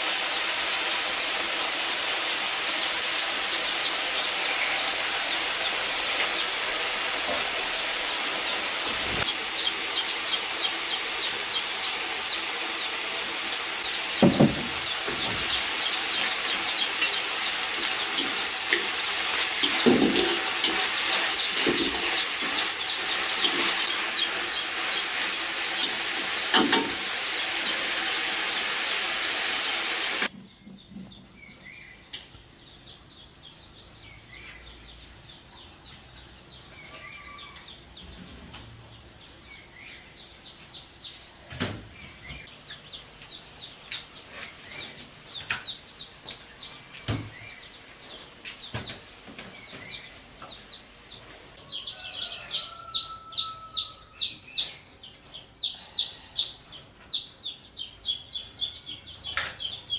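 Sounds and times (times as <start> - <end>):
birds chirping: 1.9 - 59.9.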